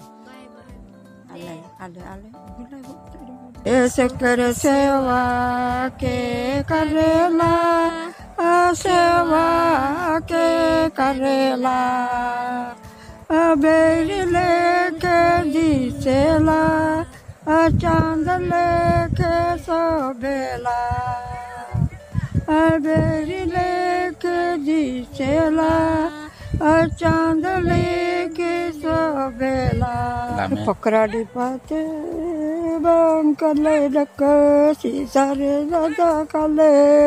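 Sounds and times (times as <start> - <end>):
person singing unaccompanied: 0.0 - 37.0.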